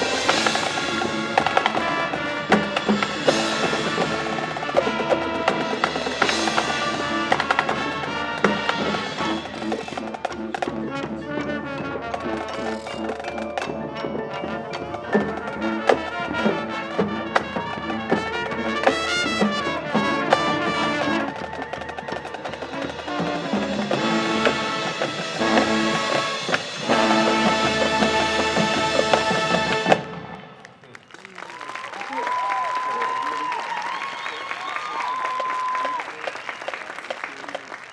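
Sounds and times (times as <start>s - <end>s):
marching band playing: 0.0s - 37.9s.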